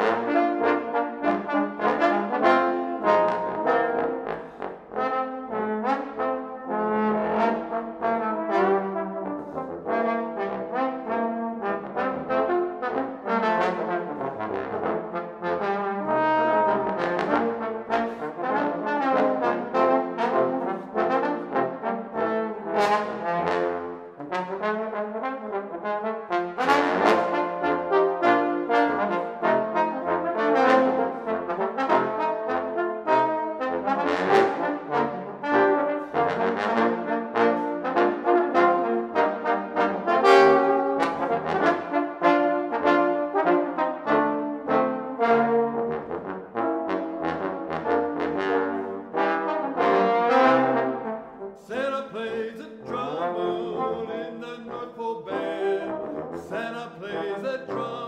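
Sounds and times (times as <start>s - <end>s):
trombone quartet playing: 0.0s - 58.0s.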